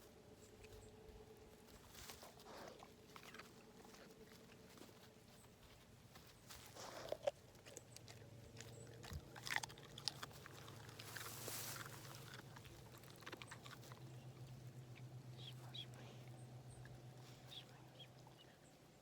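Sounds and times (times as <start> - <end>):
faint low hum: 0.0 - 19.0
dog crunching carrot: 1.8 - 17.2.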